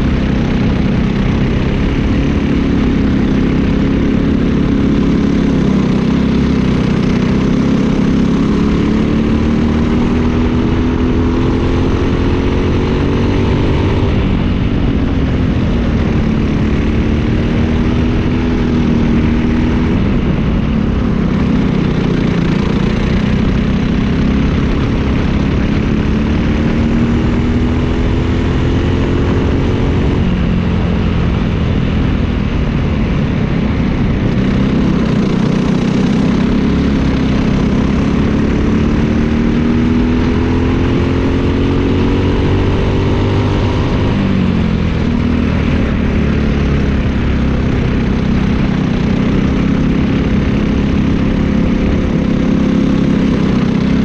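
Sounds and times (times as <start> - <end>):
kart engine revving: 0.0 - 32.3, 33.2 - 54.0
steady rush of noise: 0.0 - 54.0.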